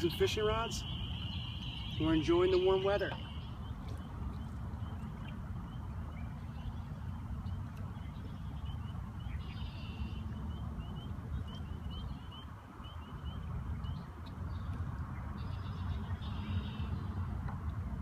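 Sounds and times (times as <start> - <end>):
tree frogs peeping: 0.0 - 17.9.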